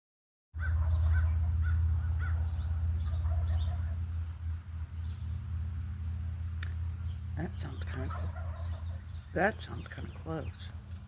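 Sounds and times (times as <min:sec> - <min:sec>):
birds calling: 0:00.6 - 0:11.0
steady low hum: 0:00.6 - 0:11.0.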